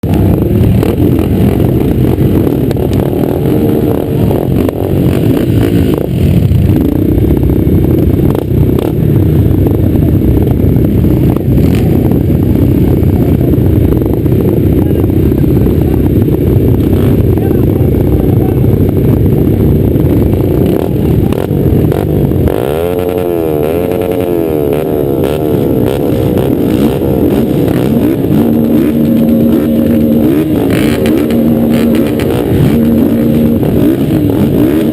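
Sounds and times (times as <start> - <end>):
motocross engines running: 0.0 - 34.9
motorcycle engine revving: 0.0 - 34.9.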